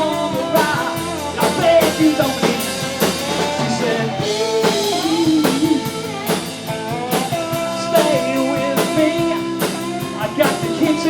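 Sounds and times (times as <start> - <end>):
bending guitar melody notes: 0.0 - 11.0
rock band playing live: 0.0 - 11.0.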